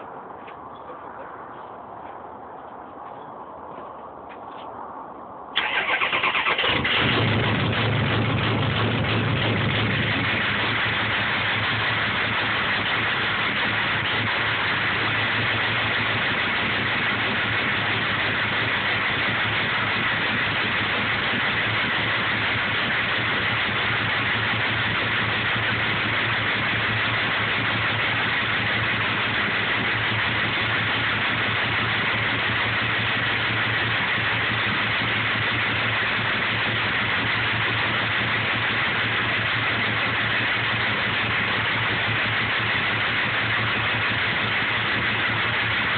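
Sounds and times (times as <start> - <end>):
engine idling: 5.6 - 45.9.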